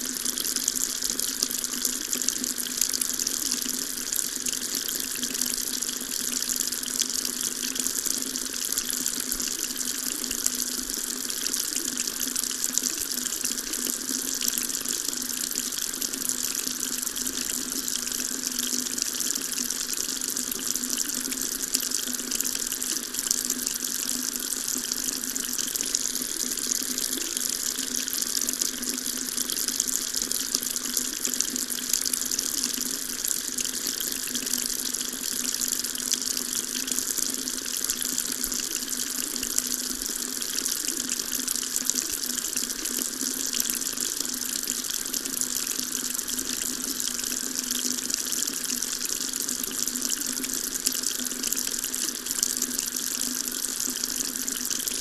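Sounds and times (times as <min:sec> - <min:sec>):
tap water running into sink: 0:00.0 - 0:55.0.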